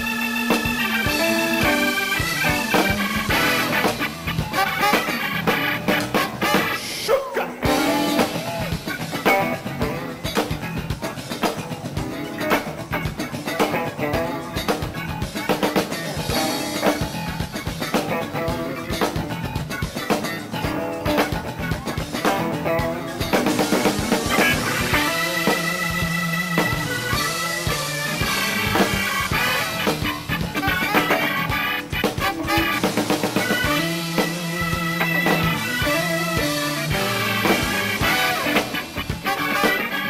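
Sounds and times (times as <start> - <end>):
bass: 0.0 - 40.0
drum kit beat: 0.0 - 40.0
electric guitar: 0.0 - 40.0.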